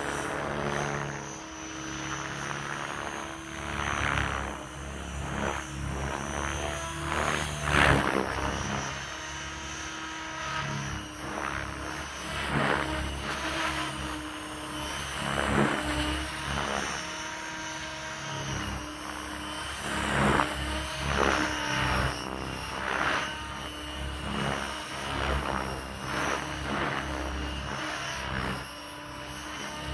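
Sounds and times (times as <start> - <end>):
helicopter rotor blades whooshing: 0.0 - 29.9
steady motor whine: 0.0 - 29.9.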